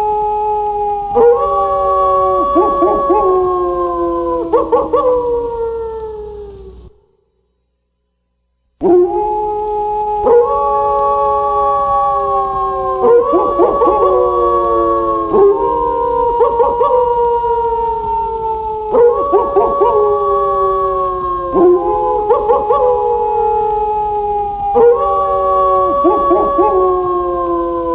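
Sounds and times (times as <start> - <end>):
wolves howling in chorus: 0.0 - 7.0, 8.8 - 27.9.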